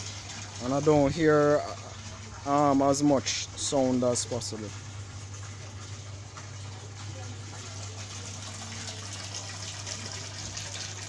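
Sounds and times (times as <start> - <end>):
low pump hum: 0.0 - 11.0
water gushing into a tank: 0.0 - 11.0.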